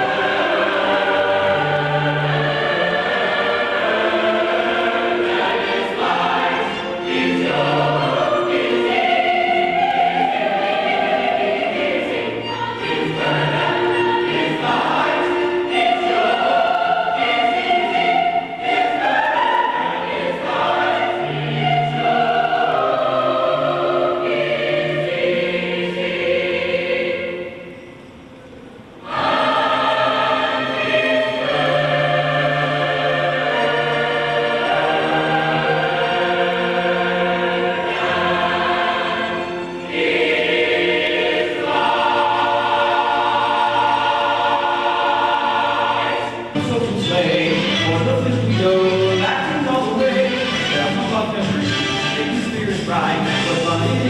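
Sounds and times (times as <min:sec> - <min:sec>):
choir singing with accompaniment: 0:00.0 - 0:54.0.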